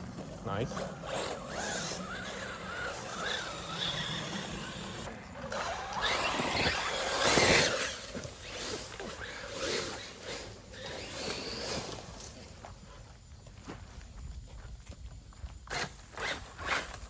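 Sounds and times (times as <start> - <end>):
rc buggy motor whine: 0.0 - 12.7, 15.6 - 17.0.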